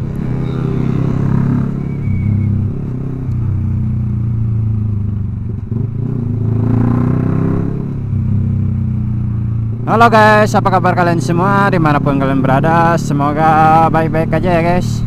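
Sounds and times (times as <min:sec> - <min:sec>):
motorcycle engine at full throttle: 0:00.0 - 0:15.0.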